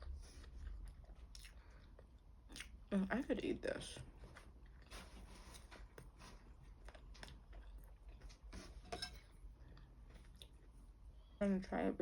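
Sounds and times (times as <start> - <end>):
faint chewing: 0.0 - 2.9, 3.9 - 11.3.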